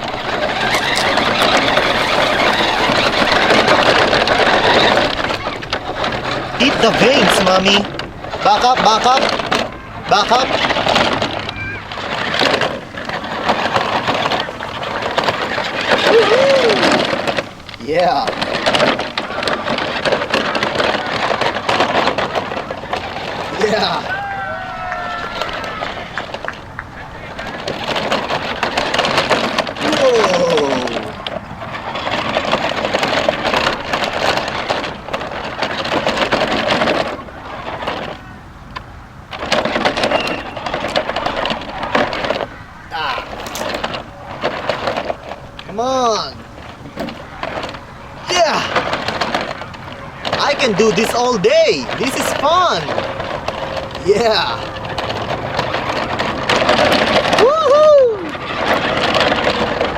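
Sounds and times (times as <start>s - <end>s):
toy truck rattling over rough ground: 0.0s - 59.9s.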